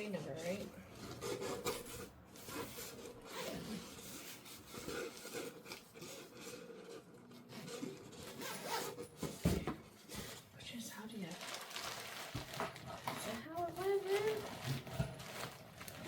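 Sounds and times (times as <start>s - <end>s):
fabric and packaging rustling: 0.0s - 16.0s.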